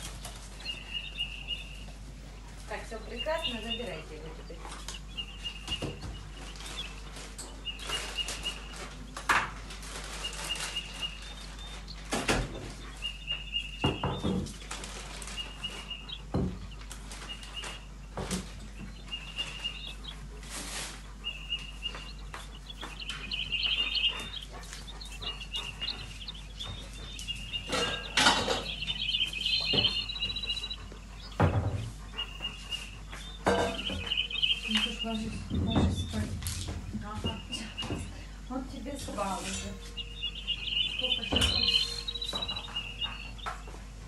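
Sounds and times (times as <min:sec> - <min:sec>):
knocks and rustles: 0:00.0 - 0:44.0
young bird calling: 0:00.0 - 0:44.0.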